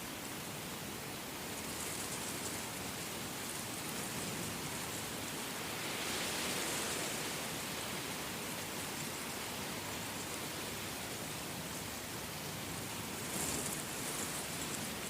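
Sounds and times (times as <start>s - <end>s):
steady falling rain: 0.0s - 15.0s.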